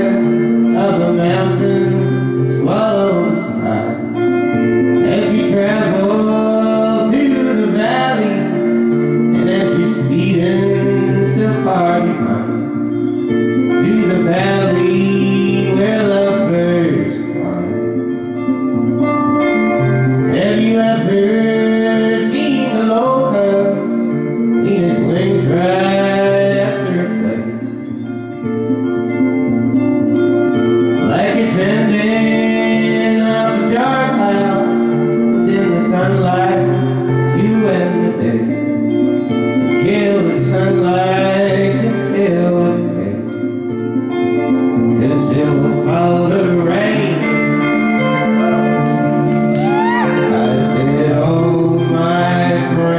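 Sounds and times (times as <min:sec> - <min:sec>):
man singing: 0:00.0 - 0:28.0, 0:30.6 - 0:52.9
electric guitar chords: 0:00.0 - 0:52.9.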